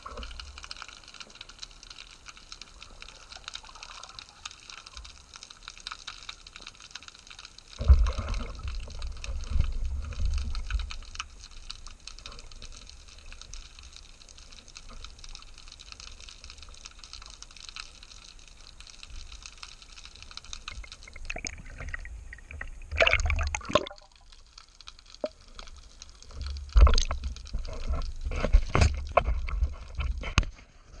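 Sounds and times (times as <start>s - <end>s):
churning water and bubbles: 0.0s - 6.4s, 7.6s - 31.0s
underwater crackle of tiny clicks: 0.0s - 31.0s.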